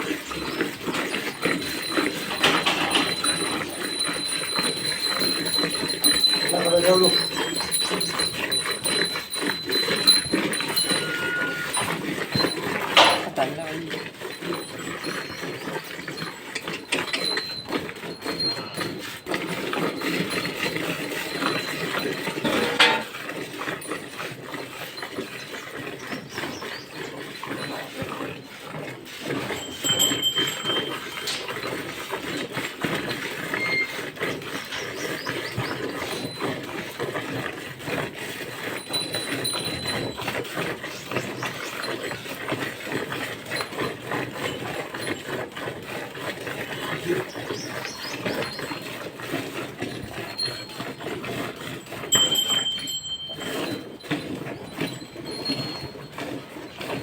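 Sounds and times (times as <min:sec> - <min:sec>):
cow milking squirts: 0:00.0 - 0:57.0.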